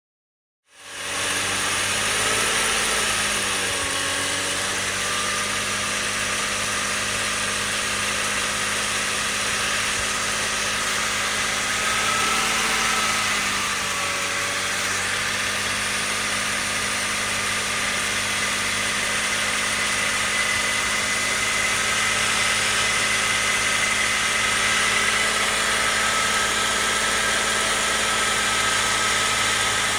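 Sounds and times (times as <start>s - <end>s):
engine rattle: 0.8s - 29.9s
car engine idling: 5.9s - 29.9s.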